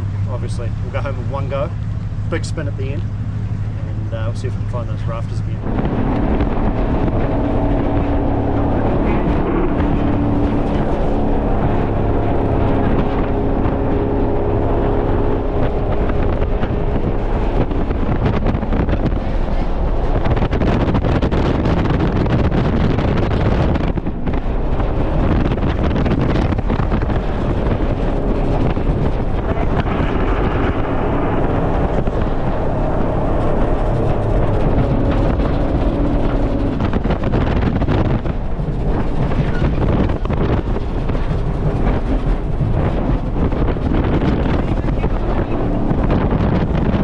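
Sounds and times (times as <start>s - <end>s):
jet boat engine: 0.0s - 47.0s
wind buffeting microphone: 0.0s - 47.0s.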